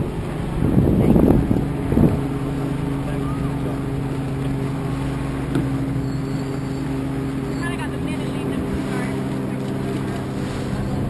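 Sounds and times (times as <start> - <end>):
motorboat engine idling: 0.0 - 11.0.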